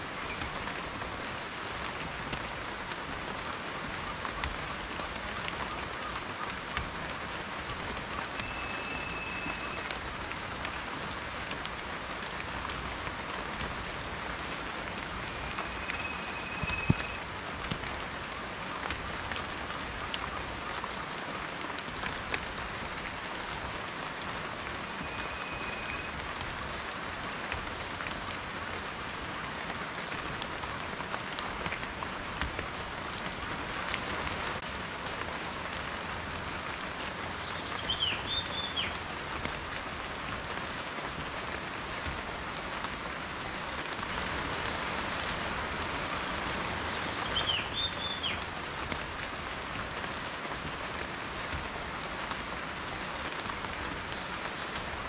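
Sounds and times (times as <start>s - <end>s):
raindrops tapping close by: 0.0s - 55.0s
steady rain falling: 0.0s - 55.0s.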